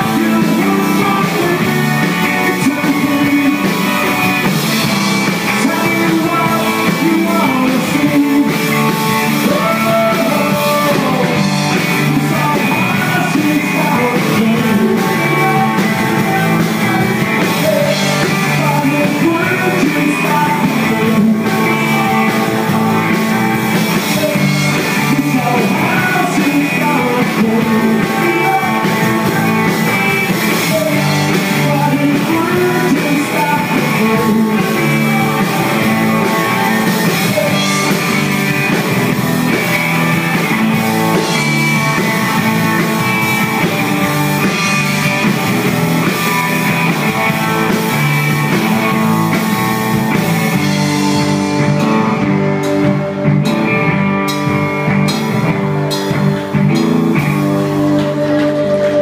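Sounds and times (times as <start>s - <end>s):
lead vocal singing: 0.0s - 49.2s, 57.4s - 59.0s
live rock band: 0.0s - 59.0s.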